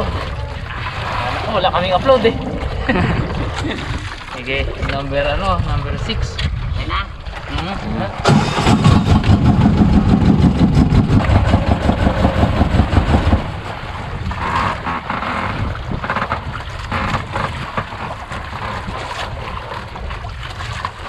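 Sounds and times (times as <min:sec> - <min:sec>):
boat engine pulsing: 0:00.0 - 0:21.0
wind noise: 0:00.0 - 0:21.0.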